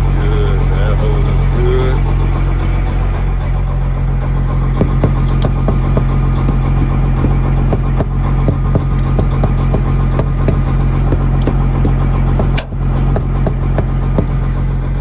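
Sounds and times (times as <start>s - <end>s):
diesel engine idling: 0.0s - 15.0s
engine ticking: 0.0s - 15.0s.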